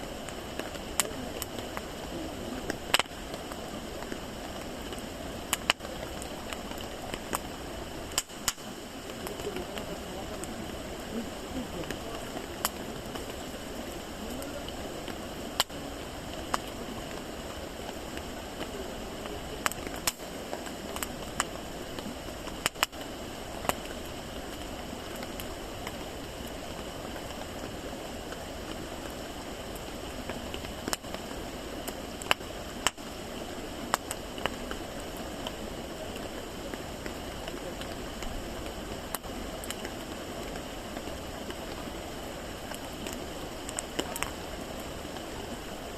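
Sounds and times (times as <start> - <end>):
campfire hissing: 0.0 - 45.9
wood crackling and popping: 0.0 - 45.9.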